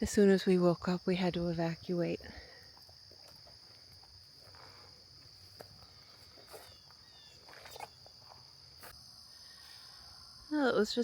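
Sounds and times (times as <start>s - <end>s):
insects singing: 0.0s - 11.0s.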